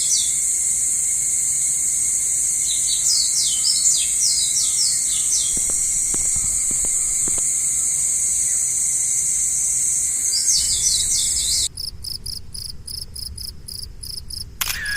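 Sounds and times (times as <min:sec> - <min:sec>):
crickets chorus: 0:00.0 - 0:14.9
insect pulsing chirp: 0:00.0 - 0:14.9.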